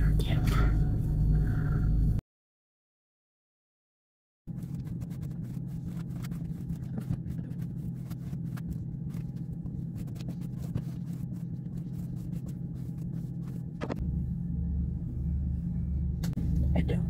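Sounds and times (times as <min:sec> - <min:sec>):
low mechanical hum: 0:00.0 - 0:02.2, 0:04.5 - 0:17.0.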